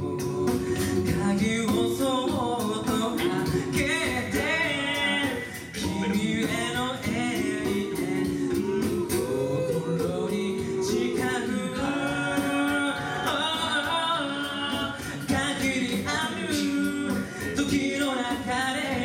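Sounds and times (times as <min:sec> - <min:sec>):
male group singing in harmony: 0:00.0 - 0:19.0
vocal percussion beat: 0:00.0 - 0:19.0.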